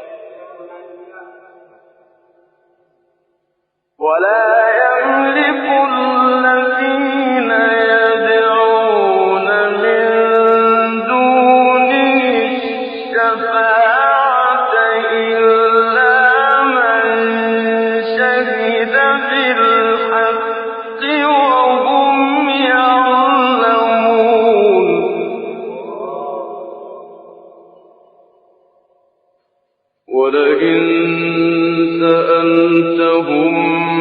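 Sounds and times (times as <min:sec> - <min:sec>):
man reciting melodically: 0:00.0 - 0:01.8, 0:04.0 - 0:27.5, 0:30.1 - 0:34.0.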